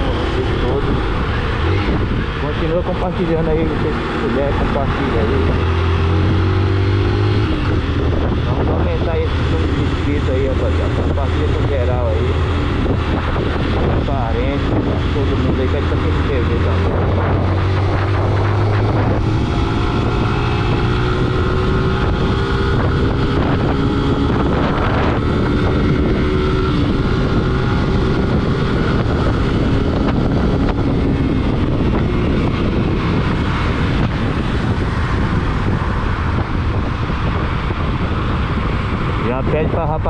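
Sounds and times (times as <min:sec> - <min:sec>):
vehicle engine drone: 0:00.0 - 0:40.0
wind noise on microphone: 0:00.0 - 0:40.0.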